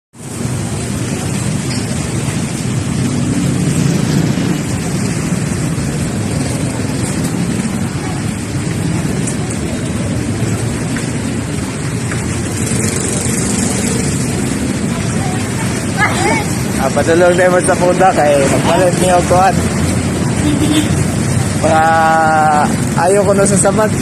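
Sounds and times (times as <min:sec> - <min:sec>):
moving vehicle rumbling: 0:00.2 - 0:24.0.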